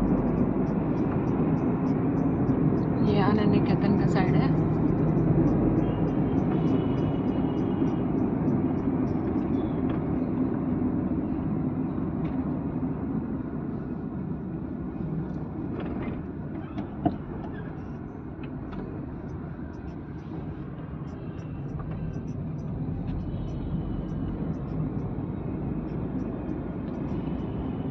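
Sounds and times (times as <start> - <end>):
road and engine rumble in car: 0.0 - 27.9.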